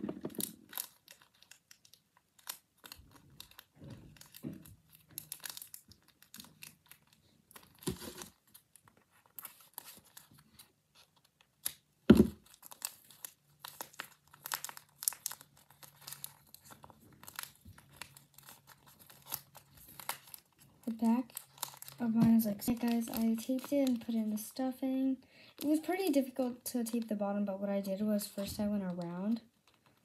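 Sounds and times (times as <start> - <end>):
paper crinkling: 0.0 - 27.2, 27.8 - 30.0.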